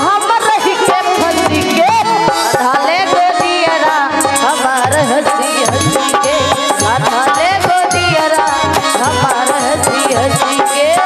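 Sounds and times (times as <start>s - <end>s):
hand drum: 0.0s - 11.0s
woman singing: 0.0s - 11.0s.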